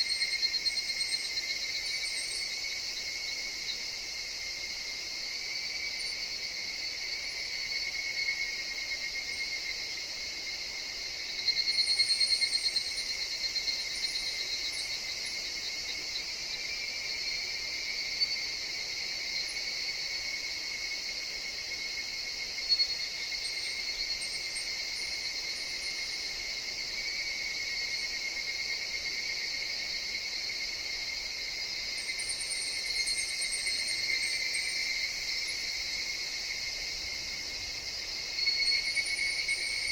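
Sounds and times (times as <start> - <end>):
cicada chorus: 0.0 - 39.9
cicada pulsing trill: 0.0 - 39.9.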